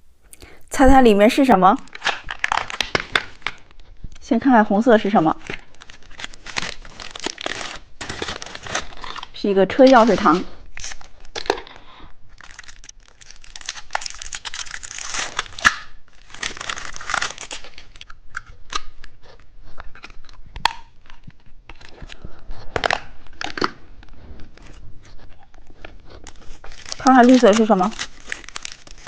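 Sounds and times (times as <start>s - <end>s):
plastic packaging tearing and crinkling: 1.4s - 4.2s, 4.9s - 29.0s.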